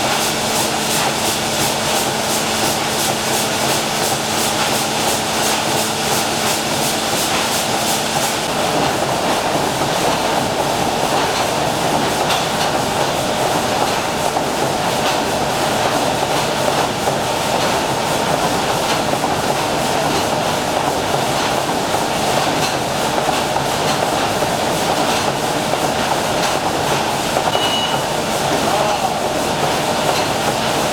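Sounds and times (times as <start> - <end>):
steam engine running: 0.0 - 30.9.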